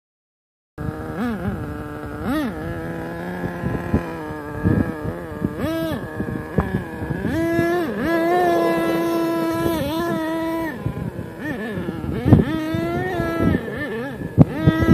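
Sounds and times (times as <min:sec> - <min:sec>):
small nitro engine revving: 0:00.8 - 0:14.9.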